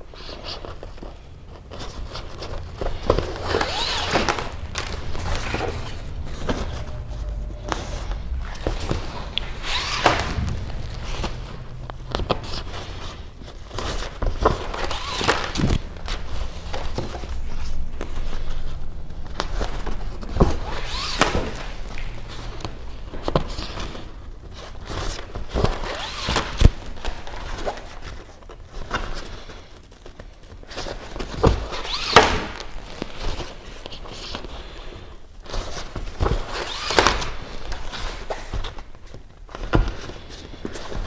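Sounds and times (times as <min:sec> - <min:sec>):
fabric rustling: 0:00.0 - 0:41.0.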